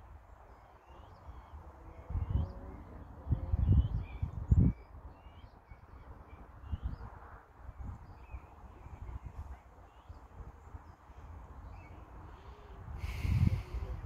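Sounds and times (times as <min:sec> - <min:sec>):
small birds chirping: 0:00.3 - 0:14.0
wind buffeting microphone: 0:01.1 - 0:14.0.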